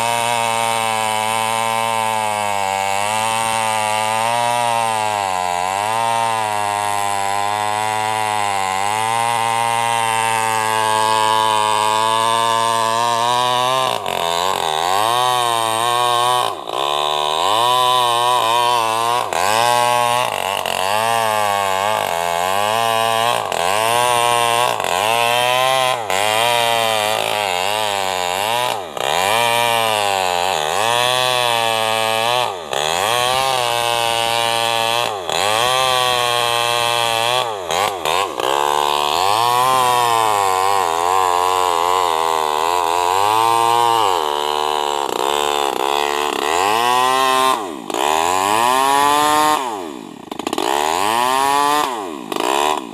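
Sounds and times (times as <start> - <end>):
chainsaw cutting through log: 0.0 - 52.9.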